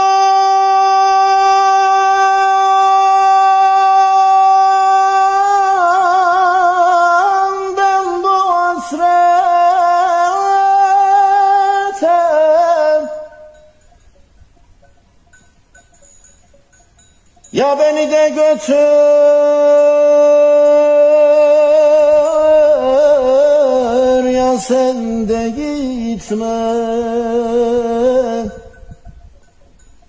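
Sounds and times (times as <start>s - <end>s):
man singing unaccompanied: 0.0s - 13.8s, 17.5s - 29.0s.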